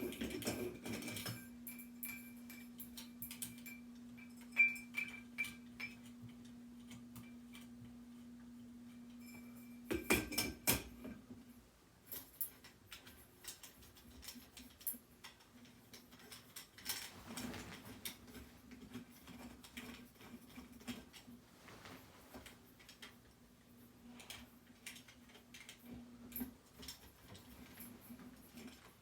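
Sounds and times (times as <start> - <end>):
ceiling fan humming: 0.0 - 29.0.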